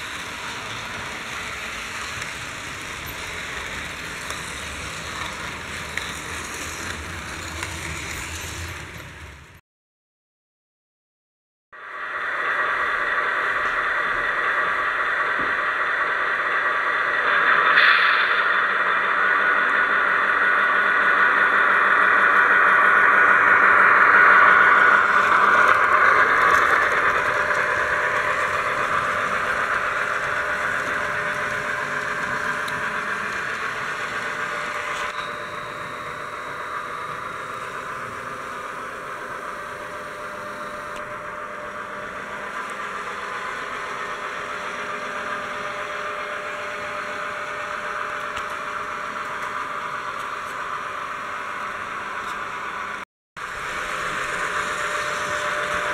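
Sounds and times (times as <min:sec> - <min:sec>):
model train motor whine: 0:00.0 - 0:09.6, 0:12.4 - 0:55.9
wheels rattling over rails: 0:00.0 - 0:09.6, 0:13.2 - 0:55.9.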